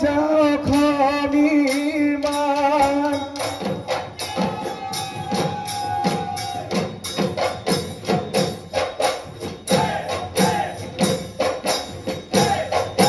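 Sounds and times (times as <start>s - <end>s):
drum beat: 0.0s - 13.0s
jingling percussion: 0.0s - 13.0s.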